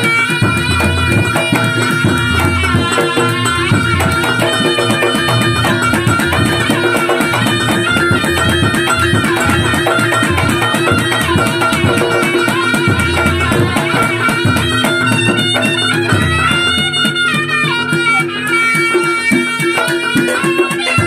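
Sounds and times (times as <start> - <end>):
fast drumming: 0.0 - 21.0
shrill reedy wind melody: 0.0 - 21.0.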